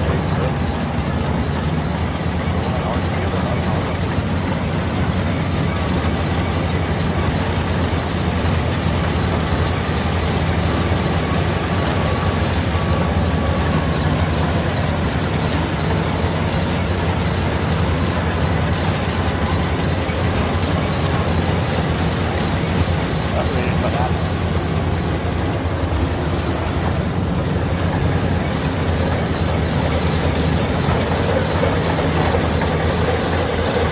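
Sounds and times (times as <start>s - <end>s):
combine harvester engine running: 0.0s - 33.9s.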